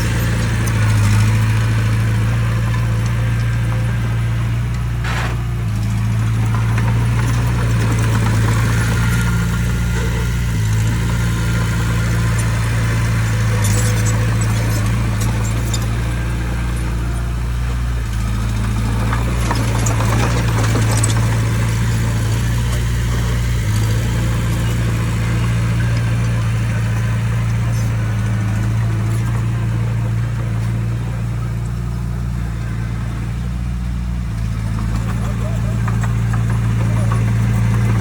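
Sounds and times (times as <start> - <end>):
diesel engine of heavy machinery: 0.0 - 38.0.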